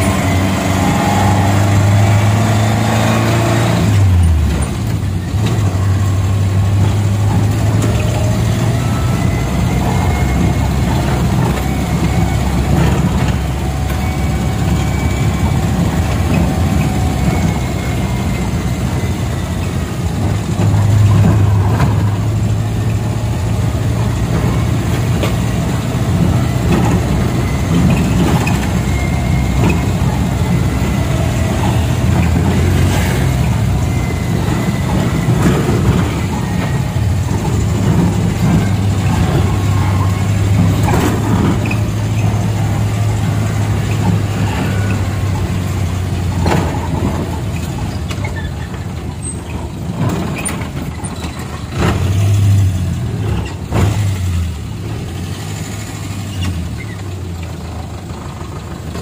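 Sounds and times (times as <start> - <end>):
minibus engine: 0.0 - 59.0
road noise: 0.0 - 59.0.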